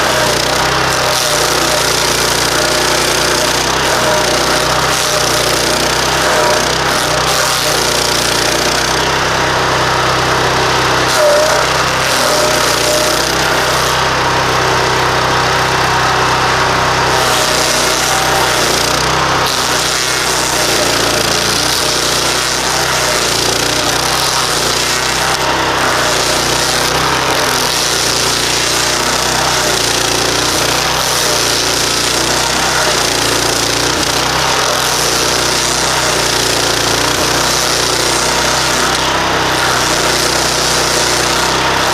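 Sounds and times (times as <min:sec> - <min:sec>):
cutting head grinding stump: 0:00.0 - 0:41.9
stump grinder engine running: 0:00.0 - 0:41.9.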